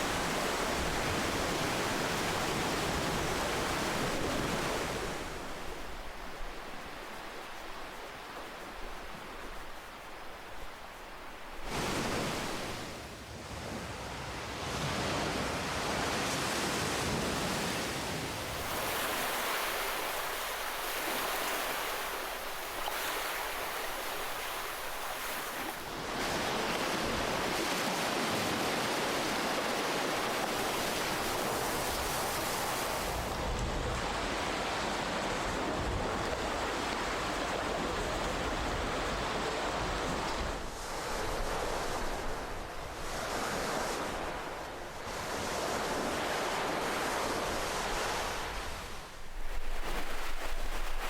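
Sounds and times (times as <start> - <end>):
ocean waves breaking on shore: 0.0 - 51.0.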